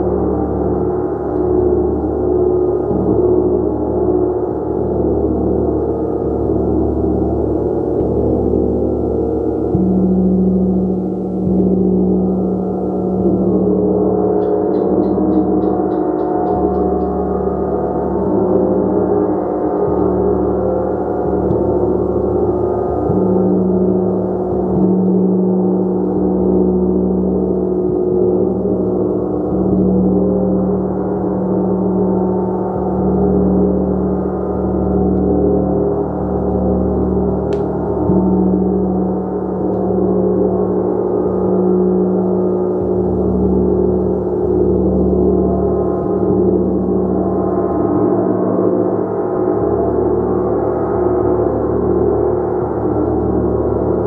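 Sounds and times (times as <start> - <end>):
gong sustained tones: 0.0 - 54.0.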